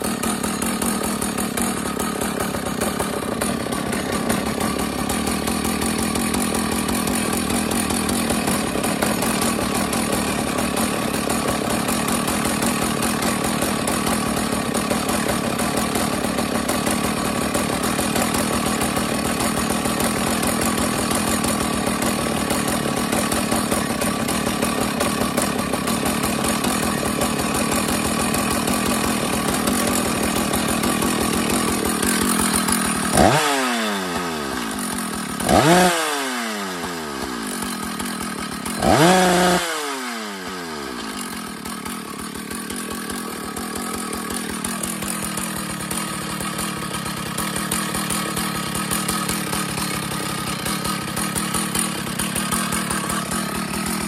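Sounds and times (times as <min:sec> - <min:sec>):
chainsaw engine revving and idling: 0:00.0 - 0:54.0.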